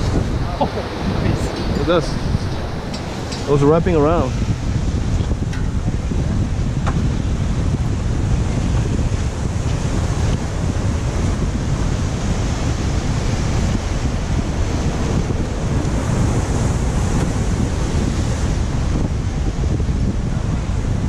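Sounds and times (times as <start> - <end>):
surf churning: 0.0 - 21.0
wind buffeting microphone: 0.0 - 21.0.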